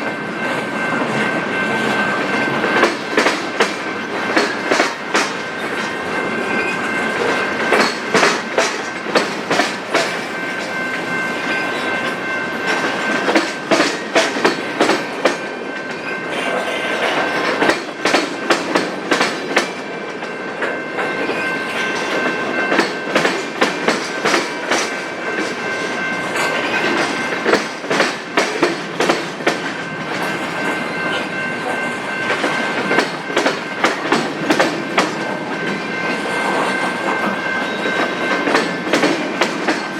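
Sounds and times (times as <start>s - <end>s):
train rumble: 0.0s - 39.9s
train wheels clicking on rail joints: 0.0s - 39.9s.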